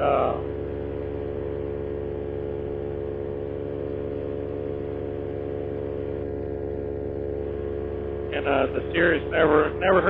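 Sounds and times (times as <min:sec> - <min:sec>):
paramotor engine droning: 0:00.0 - 0:10.0.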